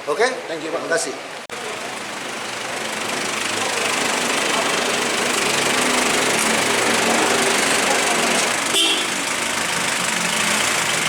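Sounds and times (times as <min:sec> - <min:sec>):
car engine running: 0:01.5 - 0:11.0.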